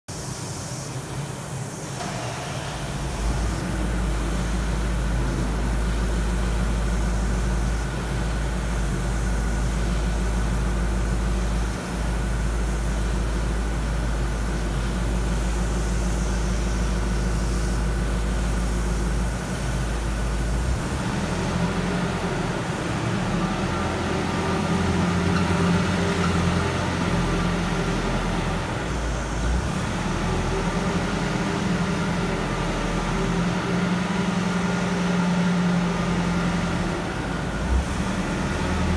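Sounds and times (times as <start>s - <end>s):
wheel loader diesel engine: 1.8s - 38.9s.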